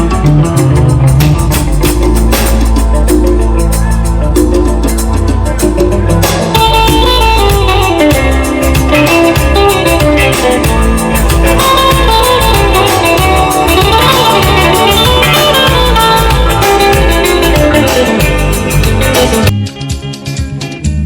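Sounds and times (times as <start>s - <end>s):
loud instrumental dance music: 0.0s - 21.0s.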